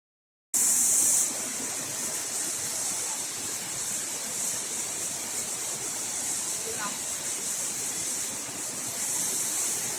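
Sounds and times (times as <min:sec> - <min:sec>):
waterfall hissing rush: 0:00.6 - 0:09.9.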